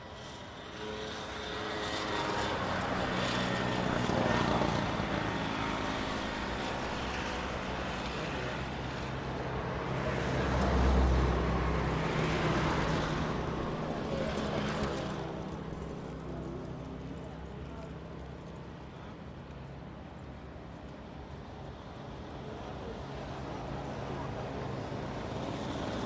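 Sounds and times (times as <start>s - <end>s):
motor scooter engines passing: 0.0s - 26.0s
traffic noise: 0.0s - 26.0s.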